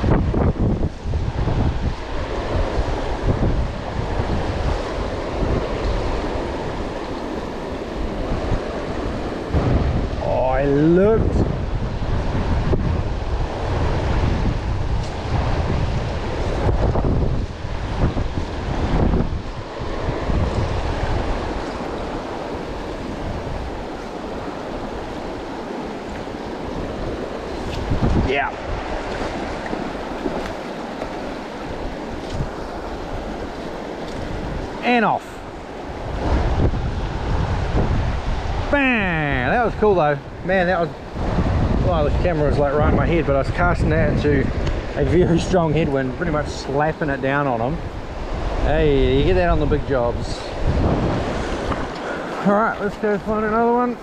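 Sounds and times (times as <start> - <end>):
river water rushing over rocks: 0.0 - 43.6, 50.0 - 54.0
wind buffeting microphone: 0.0 - 54.0.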